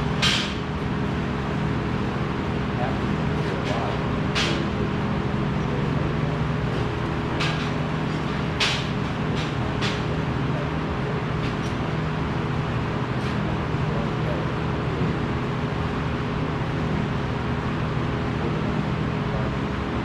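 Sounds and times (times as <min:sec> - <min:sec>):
workshop machinery humming: 0:00.0 - 0:20.0.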